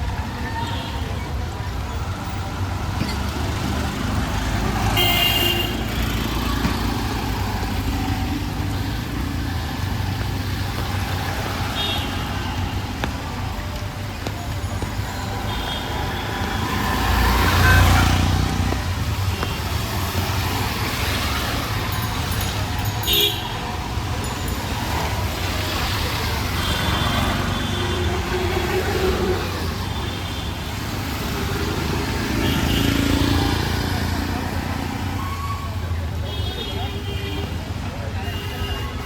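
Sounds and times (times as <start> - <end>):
traffic engines rumbling: 0.0 - 39.0.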